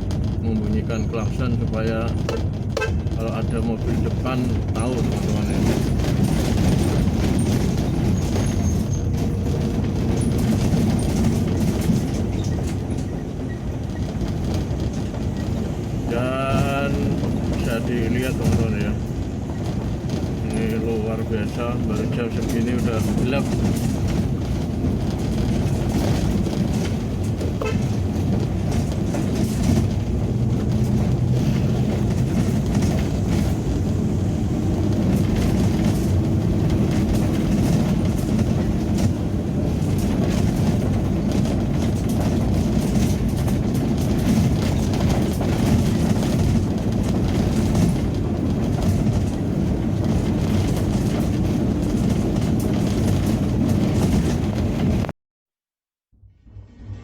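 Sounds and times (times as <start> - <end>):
vehicle engine and tyre noise: 0.0 - 55.1.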